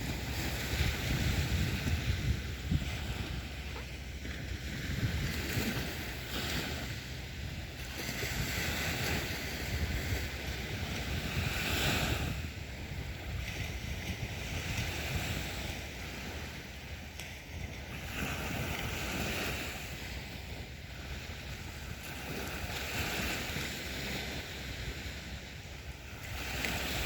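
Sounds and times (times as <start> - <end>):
sea waves breaking on beach: 0.0 - 27.0.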